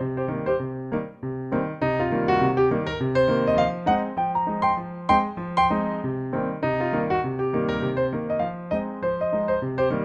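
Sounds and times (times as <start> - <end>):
instrumental piano music: 0.0 - 10.0.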